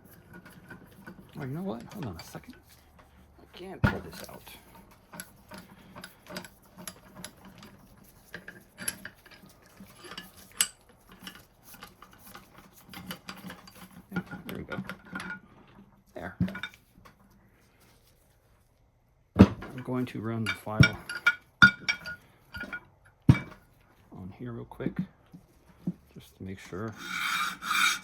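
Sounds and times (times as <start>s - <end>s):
metal tools clinking and clanking: 0.0s - 17.2s, 19.6s - 23.7s, 26.5s - 28.0s.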